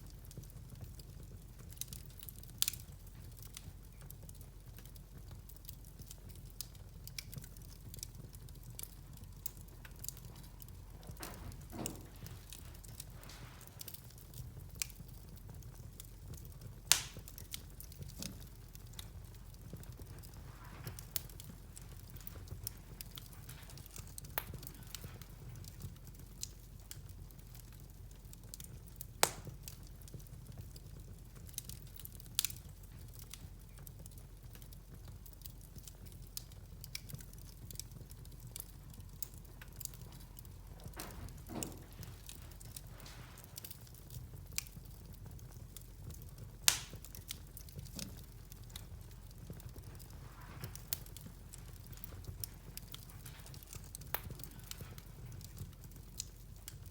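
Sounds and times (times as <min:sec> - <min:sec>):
low rumble of fire: 0:00.0 - 0:56.9
wood fire crackling: 0:00.0 - 0:56.9.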